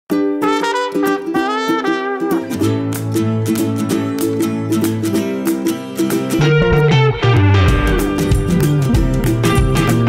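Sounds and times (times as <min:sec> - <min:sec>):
melody of quick pitched notes: 0:00.1 - 0:10.0.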